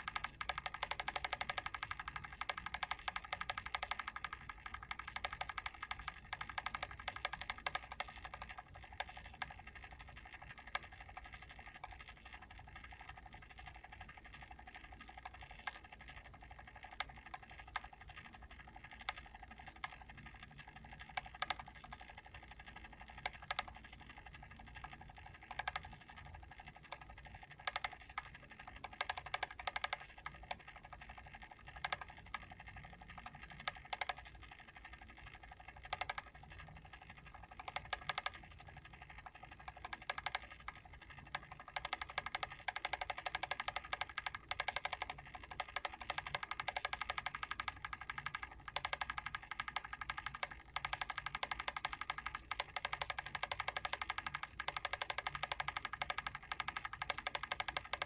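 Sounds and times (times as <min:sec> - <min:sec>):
mechanical timer ticking: 0:00.0 - 0:58.0.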